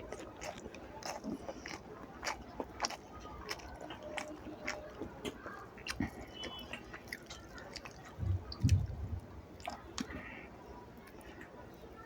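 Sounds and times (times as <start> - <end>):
person chewing: 0.0 - 9.0, 9.6 - 10.5.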